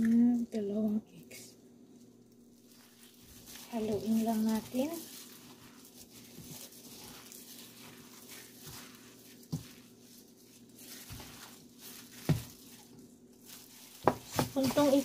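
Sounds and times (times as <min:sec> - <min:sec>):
dough rustling and scraping: 0:01.9 - 0:15.0.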